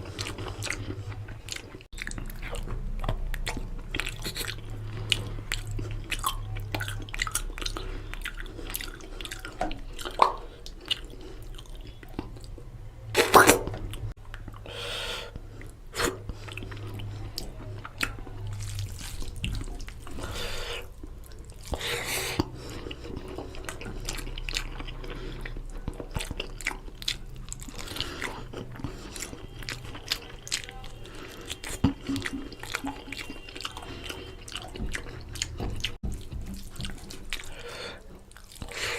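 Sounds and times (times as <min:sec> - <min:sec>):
wet chewing and smacking: 0:00.0 - 0:14.7, 0:15.3 - 0:38.9.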